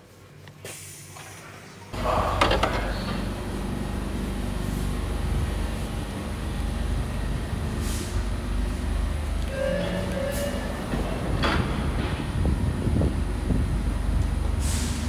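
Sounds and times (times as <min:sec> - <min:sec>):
subway doors sliding open: 0:00.7 - 0:15.0
train humming: 0:01.9 - 0:15.0.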